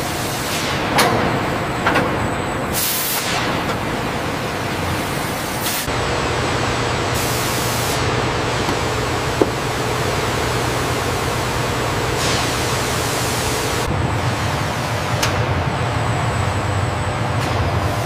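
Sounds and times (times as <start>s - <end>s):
machinery hum and hiss: 0.0s - 18.0s.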